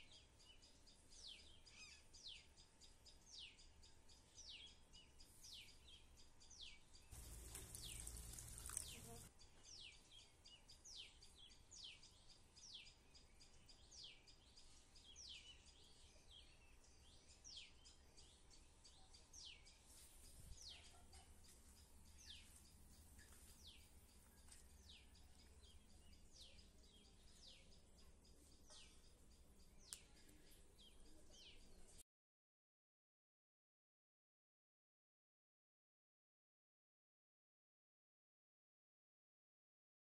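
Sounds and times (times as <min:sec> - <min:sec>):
small bird chirping: 0:00.0 - 0:32.0.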